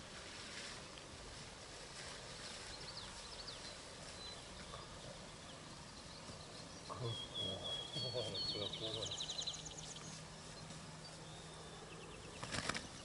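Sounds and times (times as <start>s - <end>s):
open field ambience: 0.0s - 13.0s
birds chirping and trilling: 2.4s - 13.0s.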